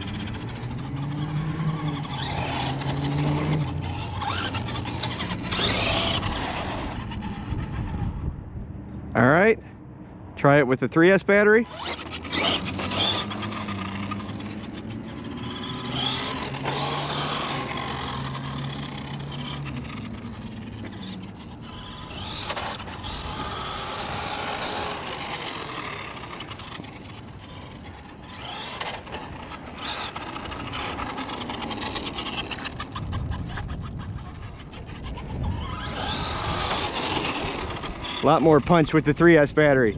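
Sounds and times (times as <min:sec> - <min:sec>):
electric toy truck motor whine: 0:00.0 - 0:08.4, 0:11.6 - 0:39.1.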